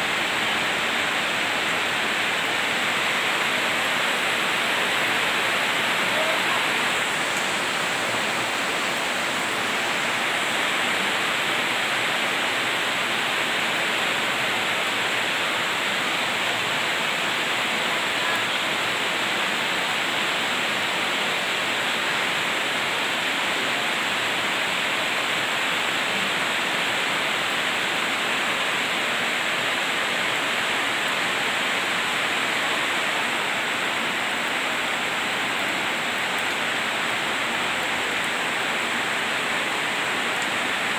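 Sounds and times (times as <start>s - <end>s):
heavy rain on roofs and trees: 0.0s - 40.9s.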